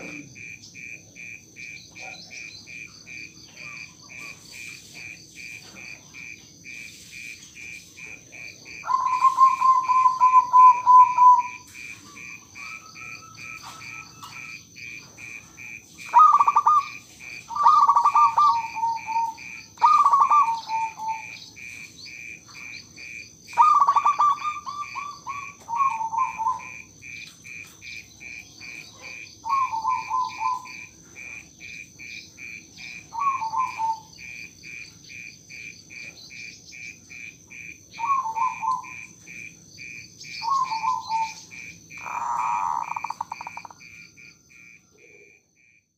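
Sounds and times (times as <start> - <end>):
constant high whine: 0.0 - 45.9
insects chirping: 0.0 - 45.9
dove cooing: 1.9 - 6.9, 7.6 - 34.8, 37.5 - 39.2, 40.3 - 43.8.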